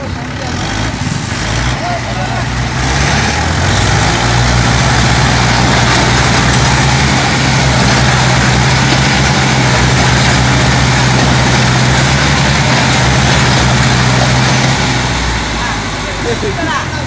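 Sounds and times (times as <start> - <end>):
tractor diesel engines droning: 0.0 - 17.0.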